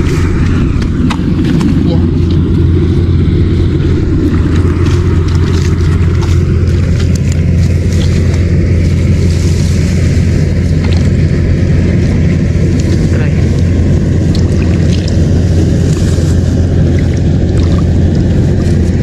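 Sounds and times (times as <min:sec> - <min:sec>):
motor engine droning: 0:00.0 - 0:19.0.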